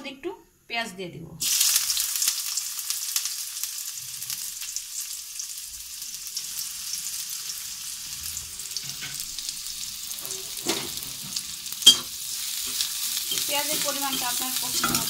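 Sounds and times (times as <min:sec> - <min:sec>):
onions sizzling in oil: 0:01.4 - 0:15.0.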